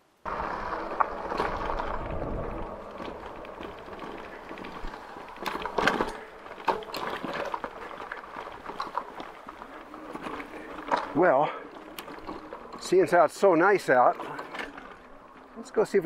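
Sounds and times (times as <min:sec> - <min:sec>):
bike rattling over bumps: 0:00.2 - 0:16.0
tyres crunching on gravel: 0:00.2 - 0:16.0.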